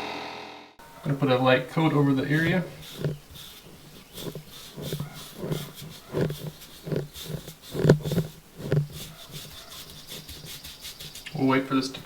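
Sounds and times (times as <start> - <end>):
brush rubbing on rubber: 0.8 - 12.0.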